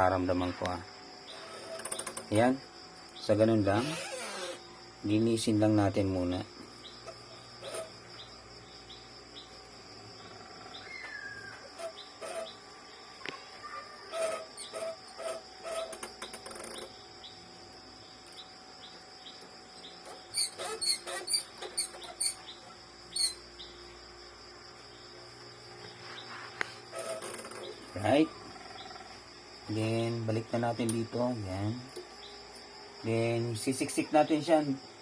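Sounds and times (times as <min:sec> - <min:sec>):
insect chirring: 0:00.0 - 0:35.0.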